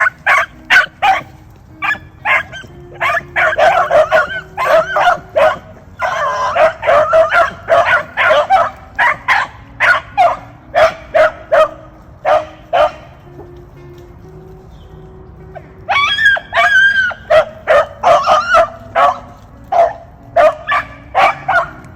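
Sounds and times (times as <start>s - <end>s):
hounds baying and barking: 0.0s - 14.7s, 15.4s - 21.9s.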